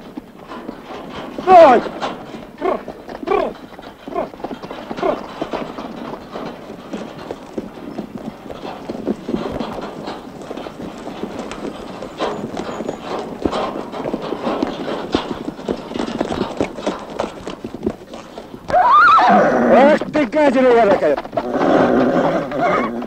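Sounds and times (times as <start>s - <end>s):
horse hoofbeats on snow: 0.0s - 23.0s.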